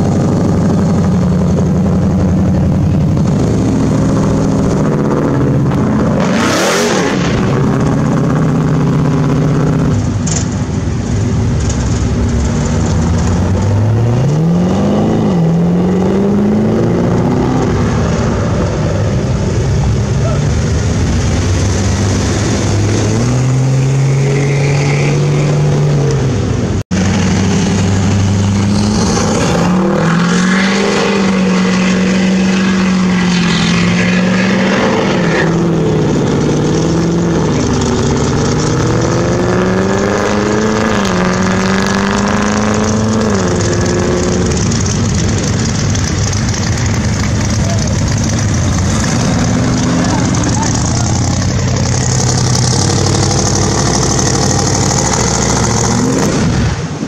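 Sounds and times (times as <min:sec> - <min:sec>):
engine accelerating through gear changes: 0:00.0 - 0:10.6, 0:11.2 - 0:57.0
car engine revving: 0:00.0 - 0:57.0.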